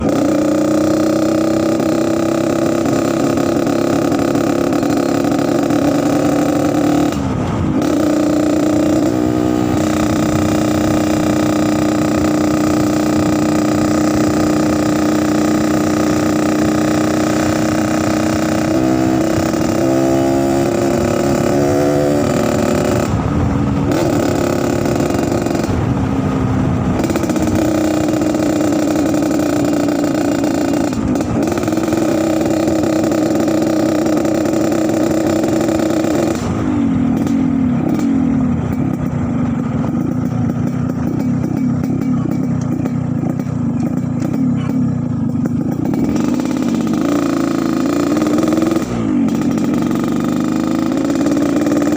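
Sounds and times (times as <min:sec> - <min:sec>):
motorcycle engine idling roughly: 0:00.0 - 0:19.9, 0:22.2 - 0:51.9
motorcycle throttle blips: 0:00.0 - 0:51.9.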